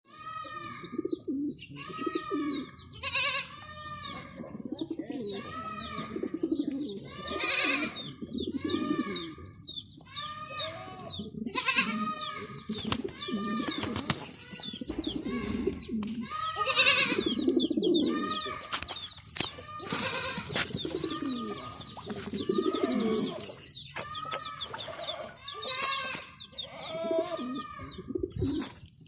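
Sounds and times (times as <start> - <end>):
higher arching pigeon calls: 0.1 - 29.0
pigeon cooing: 0.4 - 2.7, 3.7 - 9.8, 11.0 - 18.8, 19.4 - 25.4, 26.1 - 28.8.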